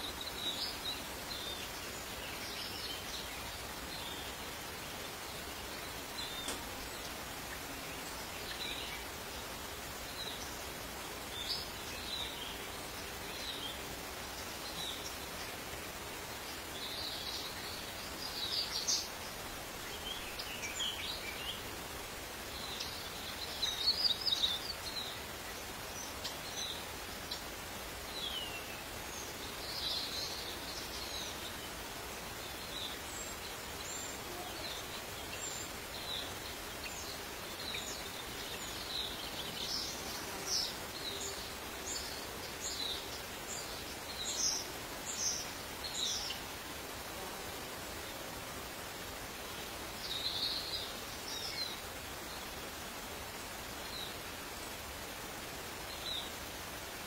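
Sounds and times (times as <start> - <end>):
outdoor hiss: 0.0 - 57.0.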